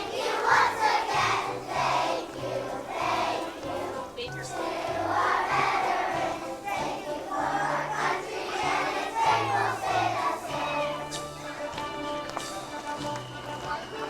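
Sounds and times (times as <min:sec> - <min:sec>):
children's choir singing: 0:00.0 - 0:14.0
musical accompaniment with bass: 0:00.0 - 0:14.0.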